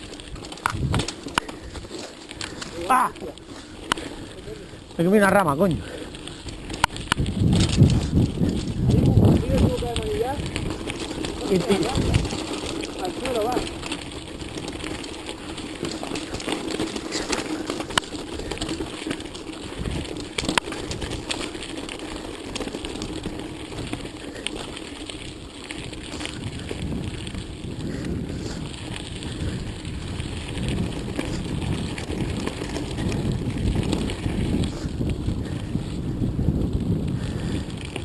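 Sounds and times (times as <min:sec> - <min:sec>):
bike striking rocks: 0:00.0 - 0:04.1, 0:06.3 - 0:35.0
bike rattling: 0:00.0 - 0:38.0
tyres crunching over stones: 0:00.0 - 0:38.0.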